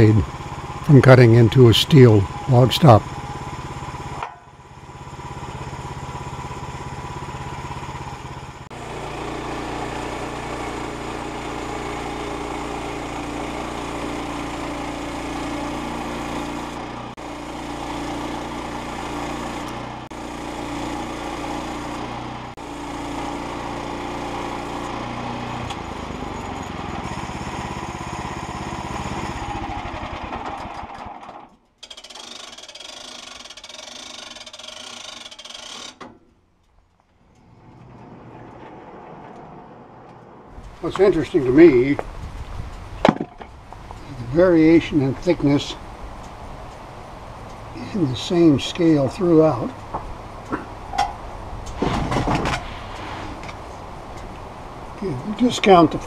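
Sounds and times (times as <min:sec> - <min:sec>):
sawmill gas engine under load: 0:00.0 - 0:56.0.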